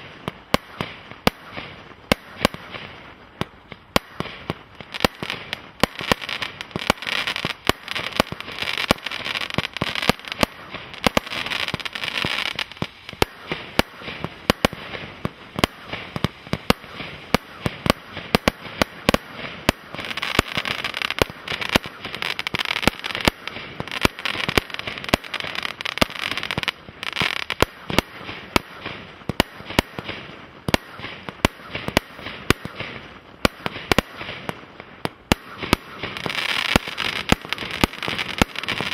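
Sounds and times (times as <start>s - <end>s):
firework bangs: 0.0s - 38.9s
firework crackling: 0.0s - 38.9s.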